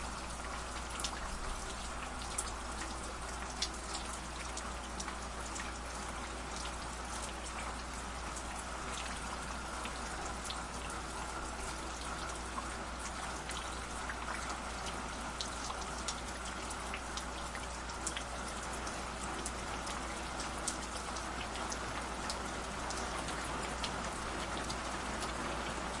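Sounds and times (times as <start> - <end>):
water splashing and dripping: 0.0 - 26.0.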